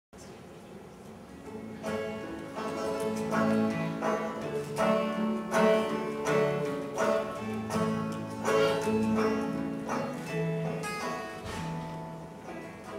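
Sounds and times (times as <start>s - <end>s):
acoustic guitar playing: 1.1s - 12.9s
banjo playing: 1.4s - 12.9s.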